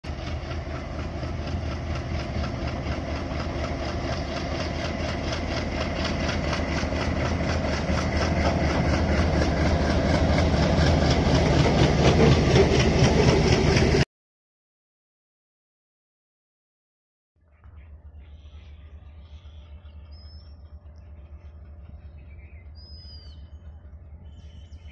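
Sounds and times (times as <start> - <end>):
diesel locomotive engine passing: 0.0 - 14.0, 17.8 - 24.9.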